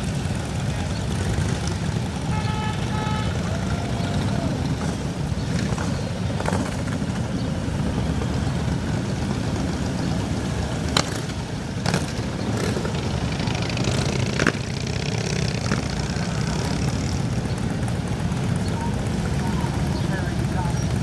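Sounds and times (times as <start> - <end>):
motorcycle engines idling: 0.0 - 21.0.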